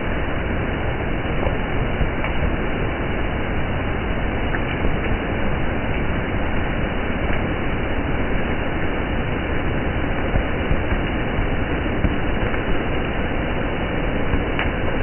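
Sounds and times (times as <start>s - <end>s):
water splashing on wet street: 0.0s - 15.0s.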